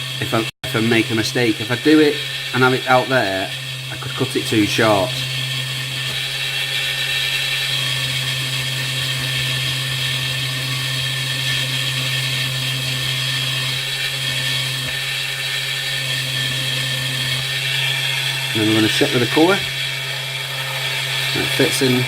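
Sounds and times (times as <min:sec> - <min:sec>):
file hissing on spinning rod: 0:00.0 - 0:22.0
lathe motor hum: 0:00.0 - 0:22.0.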